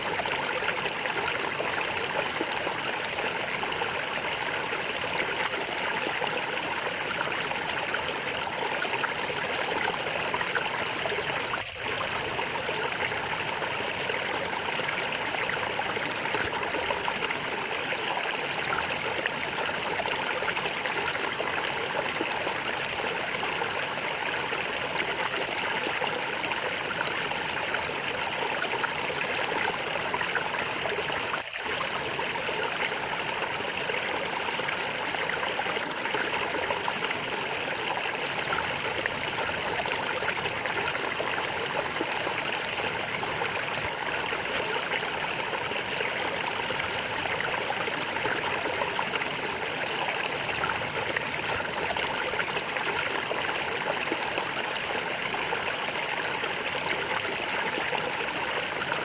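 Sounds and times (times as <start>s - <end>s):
water gurgling: 0.0s - 59.0s.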